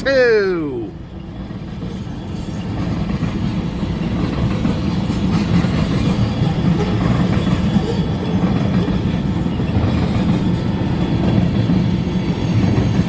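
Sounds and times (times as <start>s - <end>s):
train wheels rumbling on rail: 0.8s - 13.0s.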